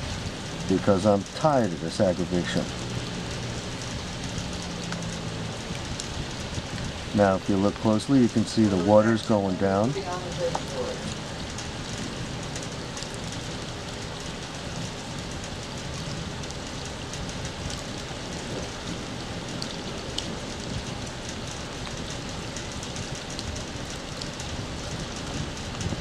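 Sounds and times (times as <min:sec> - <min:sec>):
raindrops tapping: 0:00.0 - 0:26.0
steady rain: 0:00.0 - 0:26.0.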